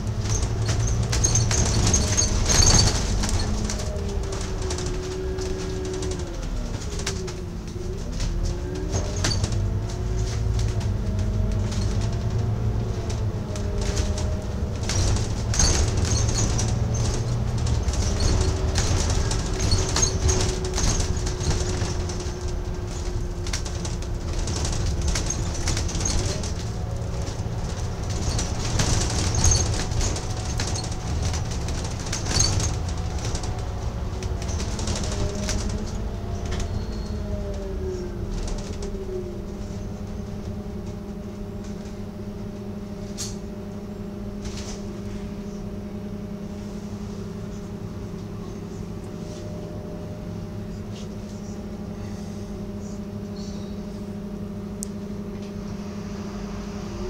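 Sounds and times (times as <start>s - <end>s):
bodywork and windows rattling: 0.0s - 46.6s
bus engine rumble and whine: 0.0s - 57.0s.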